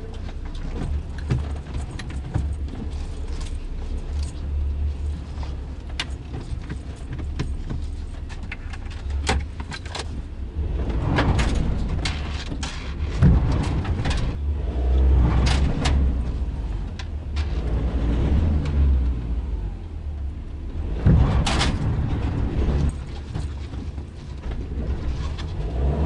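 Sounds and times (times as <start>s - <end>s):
sharp clicks and knocks in cab: 0.0s - 14.4s, 15.0s - 17.8s, 21.0s - 25.6s
diesel engine revving: 0.0s - 26.0s.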